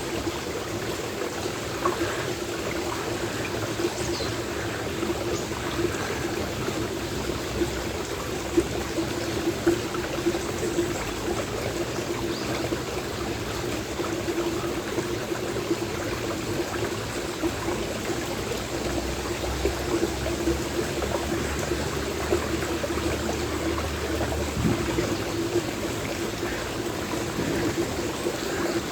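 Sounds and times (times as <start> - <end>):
stream water trickling: 0.0 - 28.9.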